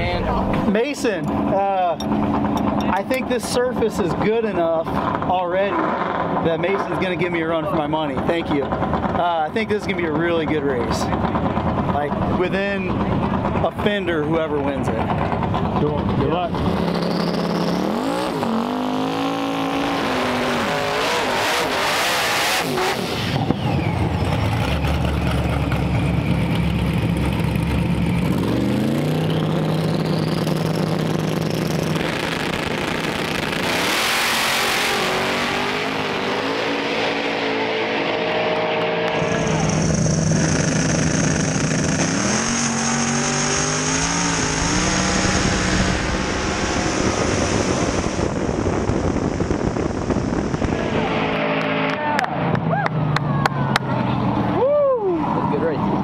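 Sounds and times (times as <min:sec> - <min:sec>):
drag racing engines revving: 0:00.0 - 0:56.0
engines accelerating hard: 0:00.0 - 0:56.0.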